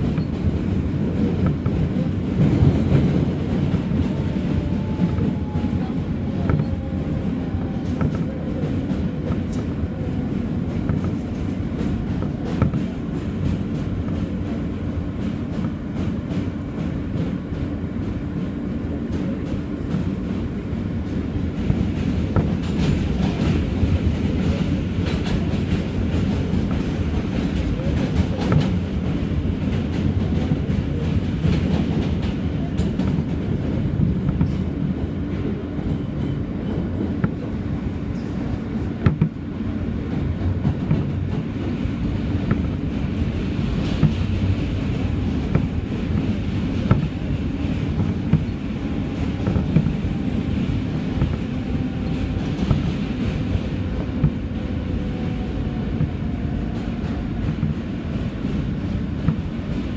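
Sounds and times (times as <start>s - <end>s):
train low rumble: 0.0s - 59.9s
wheels clacking over rails: 0.0s - 59.9s.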